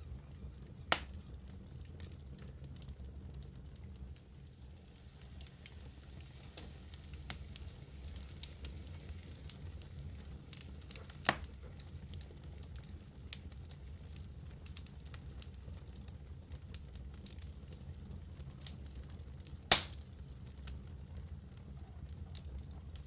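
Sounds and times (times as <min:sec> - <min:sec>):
fire crackles and pops: 0:00.0 - 0:23.0
wood fire roaring: 0:00.0 - 0:23.0.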